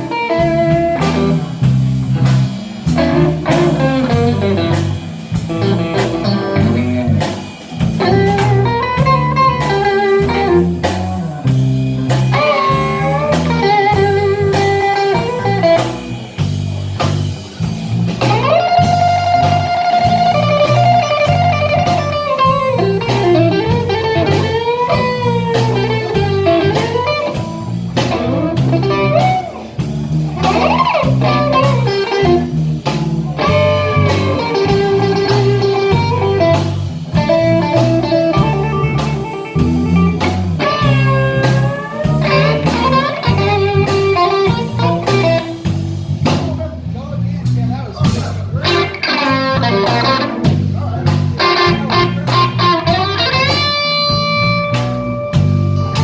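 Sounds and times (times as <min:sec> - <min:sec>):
blues band playing: 0:00.0 - 0:56.0
lead guitar bent notes: 0:00.0 - 0:56.0.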